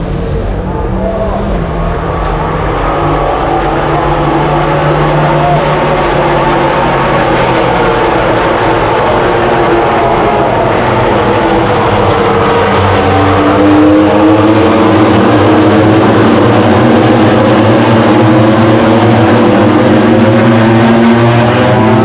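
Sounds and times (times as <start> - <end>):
racing motorcycles accelerating past: 1.9 - 22.0.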